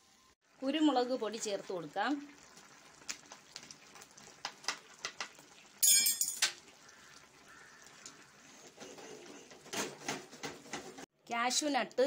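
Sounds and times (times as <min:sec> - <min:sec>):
curry simmering: 0:00.4 - 0:05.8, 0:06.4 - 0:11.1.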